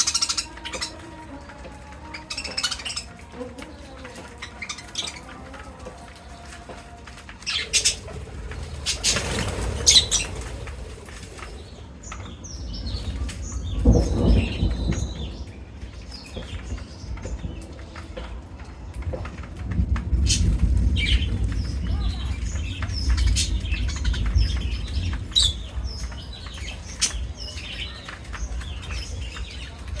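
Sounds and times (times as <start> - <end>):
parrots flapping wings: 0.0 - 30.0.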